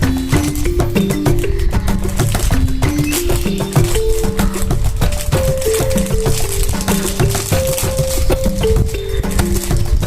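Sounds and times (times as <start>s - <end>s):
melody of held notes: 0.0s - 10.0s
rattling percussion: 0.0s - 10.0s.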